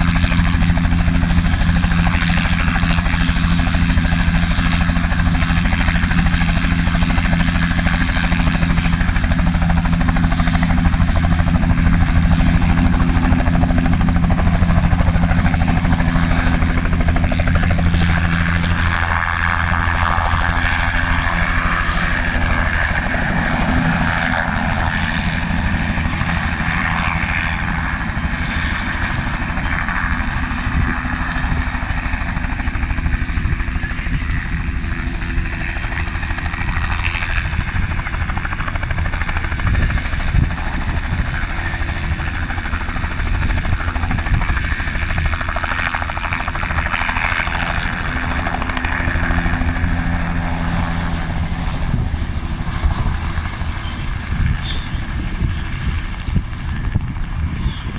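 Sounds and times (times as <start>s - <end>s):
helicopter blade chop: 0.0s - 57.5s
turbine whine: 0.0s - 57.9s.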